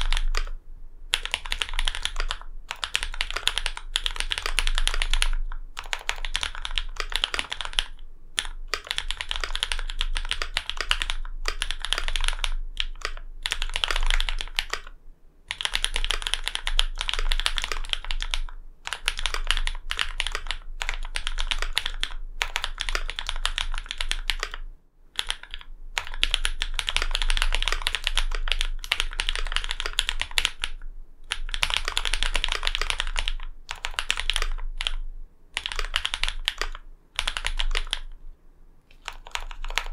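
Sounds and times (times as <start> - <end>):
fast mechanical keyboard typing: 0.0 - 24.6, 25.2 - 35.0, 35.6 - 38.2, 38.9 - 39.9.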